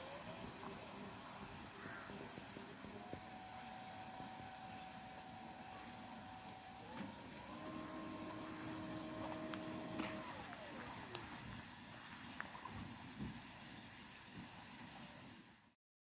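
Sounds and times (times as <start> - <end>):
electric outboard motor whining: 0.0 - 12.9.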